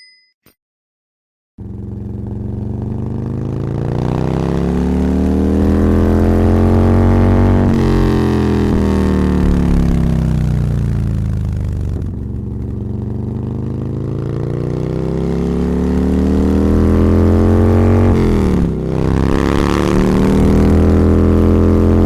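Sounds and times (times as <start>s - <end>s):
vehicle engine revving: 1.7s - 12.7s, 14.9s - 22.0s.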